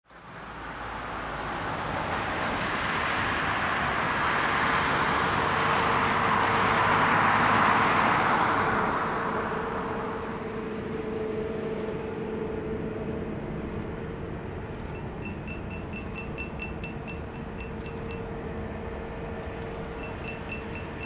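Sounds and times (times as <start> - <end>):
jet engines taxiing: 0.2 - 21.0.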